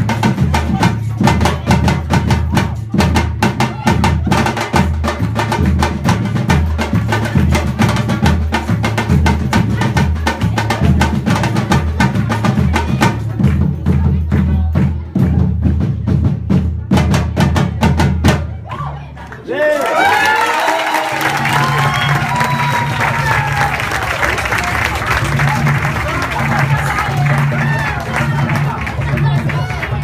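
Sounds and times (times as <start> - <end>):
drum-led percussion music: 0.0 - 18.8, 20.0 - 30.0.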